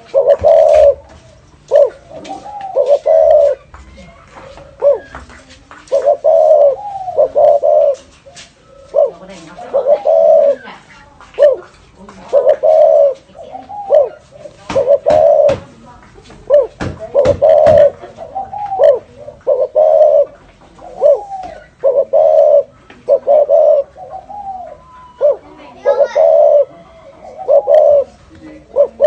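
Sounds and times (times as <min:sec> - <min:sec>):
dove cooing: 0:00.0 - 0:29.0.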